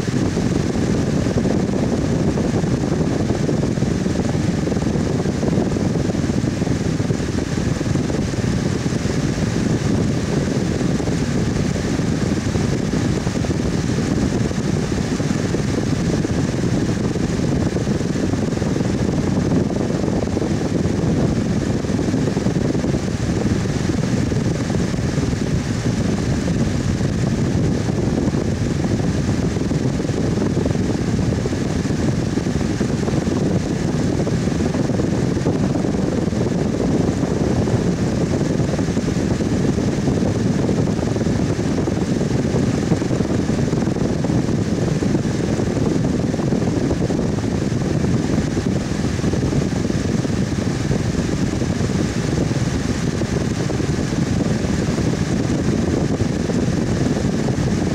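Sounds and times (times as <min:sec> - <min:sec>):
electric fan running: 0:00.0 - 0:57.9.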